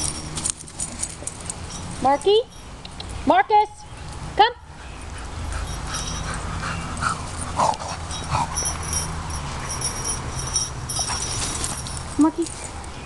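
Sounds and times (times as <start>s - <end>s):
small bells jingling: 0.0s - 4.2s, 5.4s - 12.9s.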